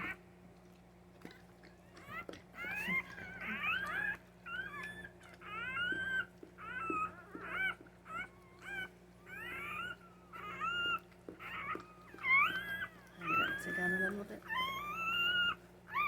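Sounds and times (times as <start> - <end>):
puppy squealing cries: 1.9 - 16.0.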